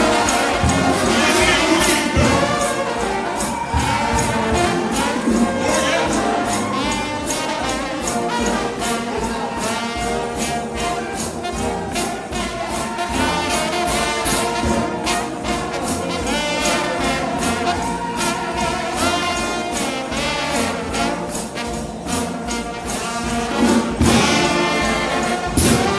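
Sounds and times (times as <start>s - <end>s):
brass band playing: 0.0s - 25.9s
steady drum beat: 0.0s - 25.9s.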